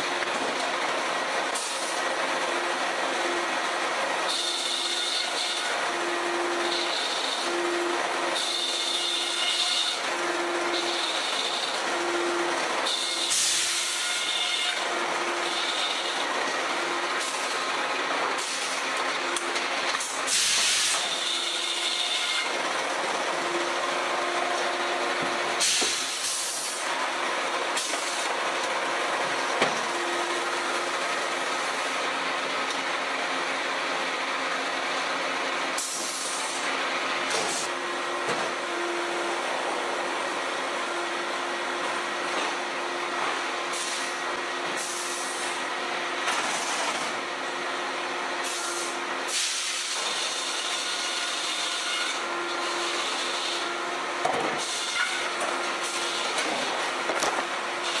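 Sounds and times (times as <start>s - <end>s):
machinery humming: 0.0s - 58.0s.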